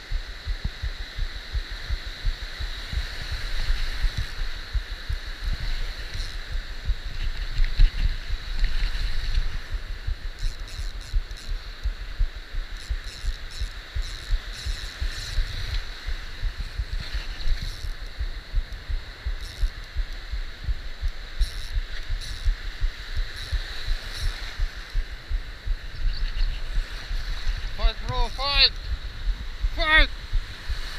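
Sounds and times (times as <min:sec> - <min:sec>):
waves thumping against camera: 0:00.0 - 0:30.9.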